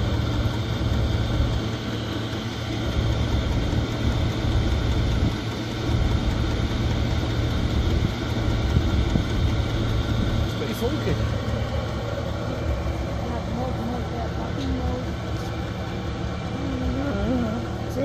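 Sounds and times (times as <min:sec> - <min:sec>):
heater fan and burner rush: 0:00.0 - 0:18.0
low hum: 0:00.0 - 0:18.0.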